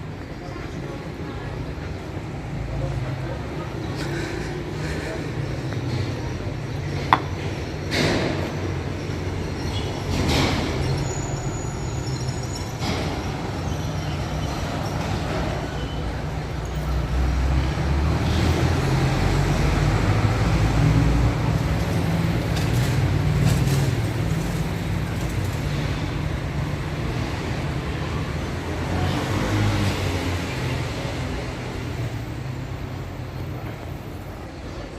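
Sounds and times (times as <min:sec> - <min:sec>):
rumble of passing traffic: 0:00.0 - 0:34.9.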